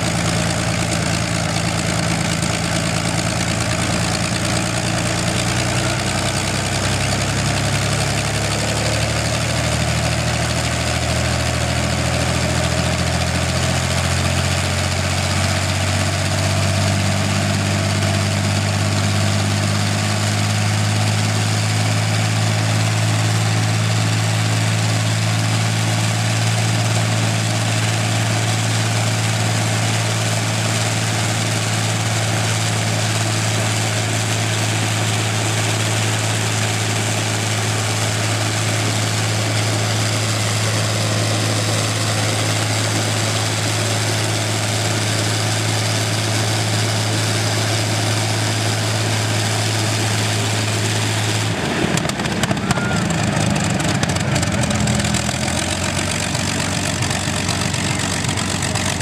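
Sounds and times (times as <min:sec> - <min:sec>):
aero engine running: 0:00.0 - 0:59.0.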